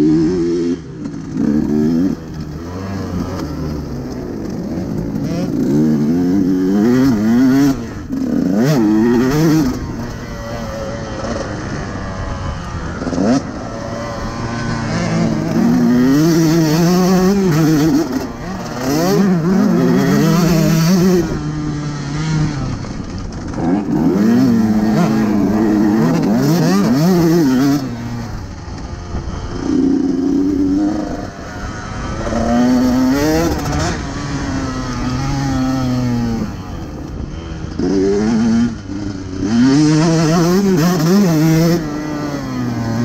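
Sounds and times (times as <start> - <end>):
motocross engine revving: 0.0 - 43.0.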